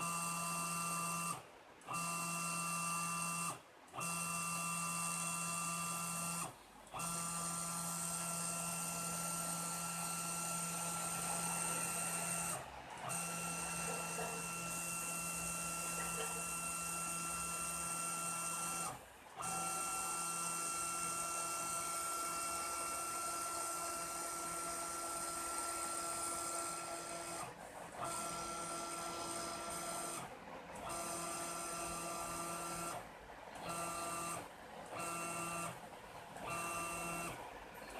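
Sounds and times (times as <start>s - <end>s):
cnc router motors whining: 0.0s - 33.0s, 33.6s - 35.8s, 36.4s - 37.4s.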